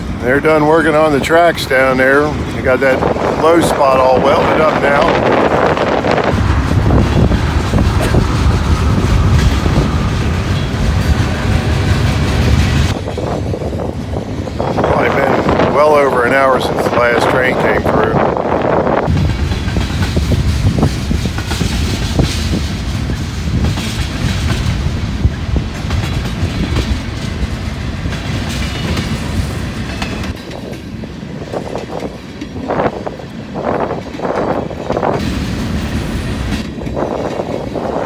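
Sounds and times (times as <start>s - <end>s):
train low rumble: 0.0s - 38.0s
train wheels clacking: 0.0s - 38.0s.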